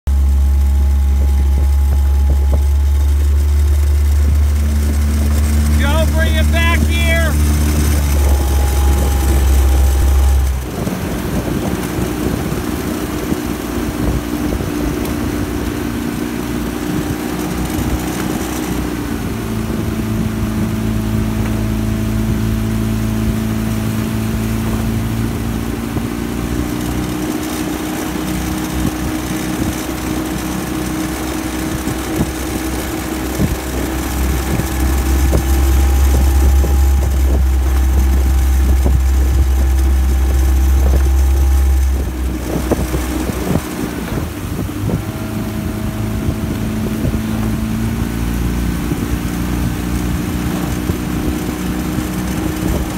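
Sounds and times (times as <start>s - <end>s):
heavy low rumble: 0.0s - 27.2s, 28.4s - 52.9s
outboard engine running: 0.0s - 52.9s.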